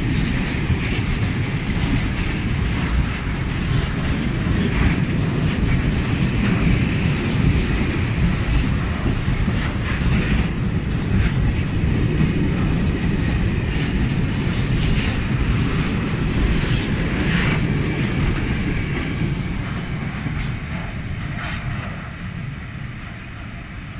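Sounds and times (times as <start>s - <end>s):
wheels clicking over rail joints: 0.0s - 22.0s
freight train rolling past: 0.0s - 23.9s.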